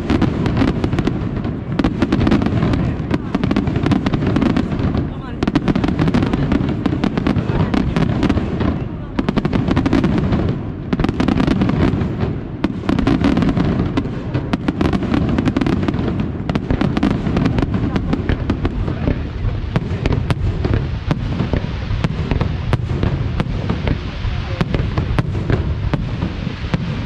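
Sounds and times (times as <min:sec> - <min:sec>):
sharp firework cracks: 0:00.0 - 0:27.0.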